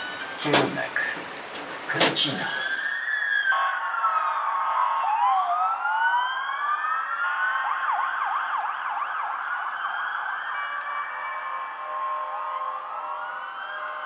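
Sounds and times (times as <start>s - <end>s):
emergency siren wailing and yelping: 0.0s - 14.0s.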